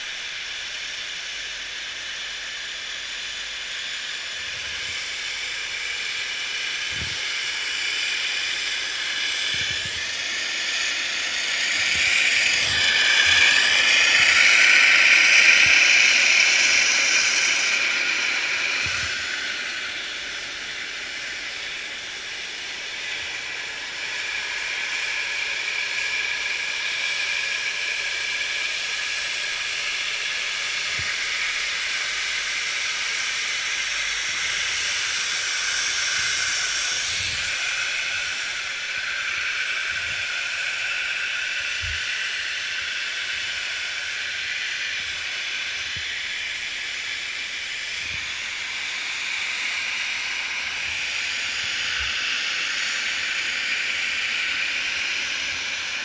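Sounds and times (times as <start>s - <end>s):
thin high whistle: 0.0s - 55.8s
snowmaking guns hissing: 0.0s - 56.0s.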